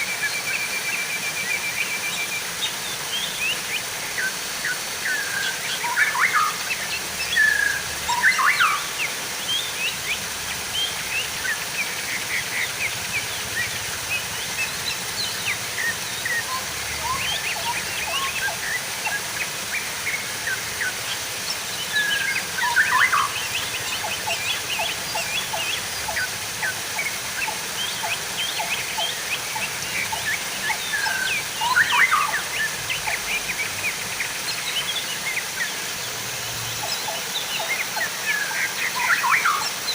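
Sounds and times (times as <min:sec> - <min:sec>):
water trickling and gurgling: 0:01.4 - 0:39.9.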